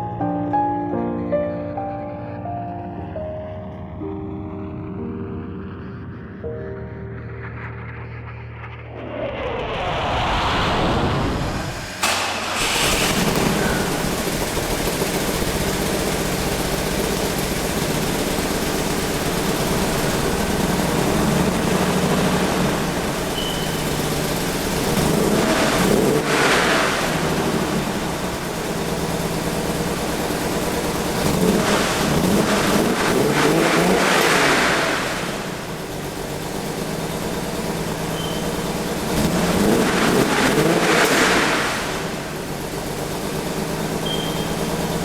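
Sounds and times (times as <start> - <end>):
car engine running: 1.3 - 10.3, 11.1 - 45.0.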